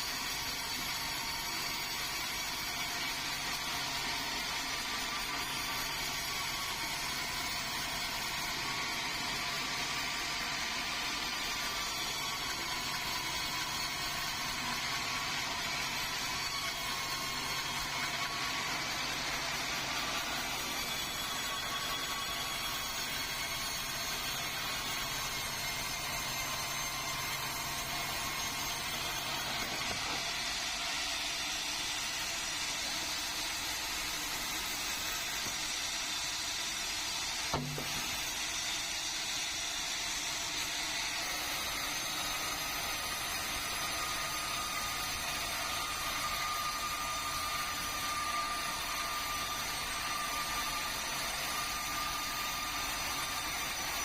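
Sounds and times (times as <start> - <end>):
sawmill saw running: 0.0 - 54.0.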